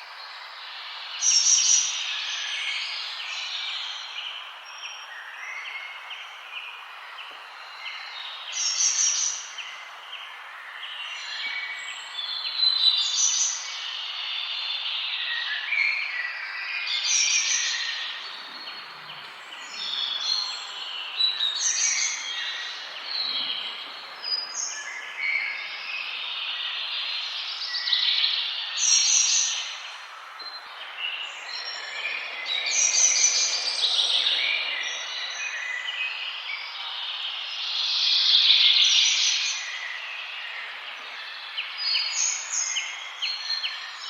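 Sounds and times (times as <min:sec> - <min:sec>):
steady background hiss: 0:00.0 - 0:44.0
wild birds chirping and singing: 0:00.0 - 0:44.0.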